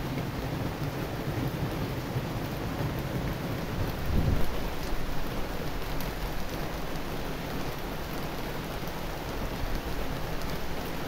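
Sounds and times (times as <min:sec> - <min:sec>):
rain falling on trees: 0:00.0 - 0:11.0.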